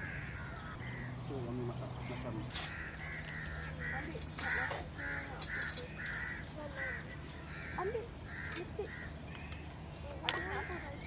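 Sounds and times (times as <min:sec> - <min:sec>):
crows cawing: 0:00.0 - 0:01.2, 0:01.9 - 0:11.0.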